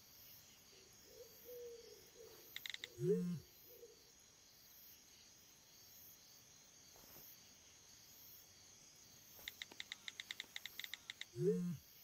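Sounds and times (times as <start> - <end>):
faint crickets at night: 0.0 - 12.0.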